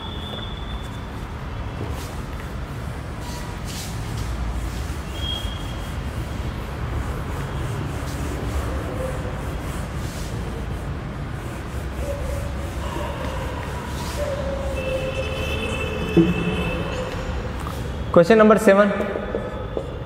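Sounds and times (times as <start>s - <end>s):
duster wiping a whiteboard: 0.2s - 18.1s.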